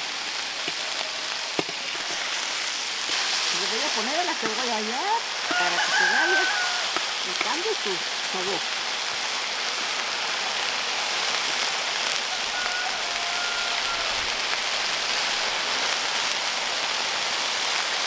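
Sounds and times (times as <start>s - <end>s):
chicken sizzling on a griddle: 0.0s - 18.0s.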